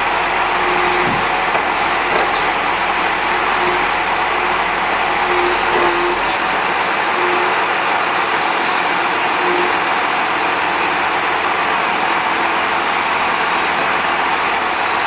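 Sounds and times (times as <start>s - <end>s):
diesel truck engine running: 0.0s - 15.0s
faint hydraulic whines: 0.0s - 15.0s.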